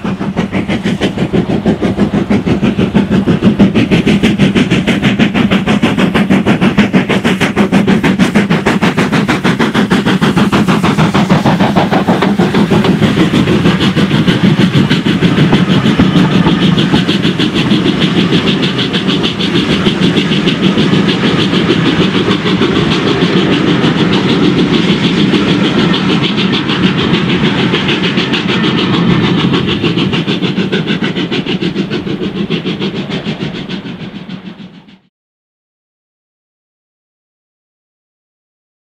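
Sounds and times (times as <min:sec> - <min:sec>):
coaches rolling on rails: 0:00.0 - 0:35.1
steam locomotive exhaust beating: 0:00.0 - 0:35.1.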